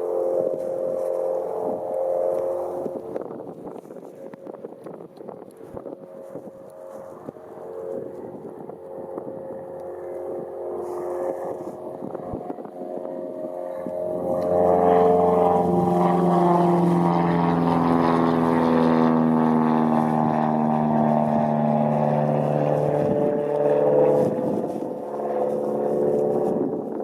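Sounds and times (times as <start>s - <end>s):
propeller plane passing by: 0.0s - 27.0s.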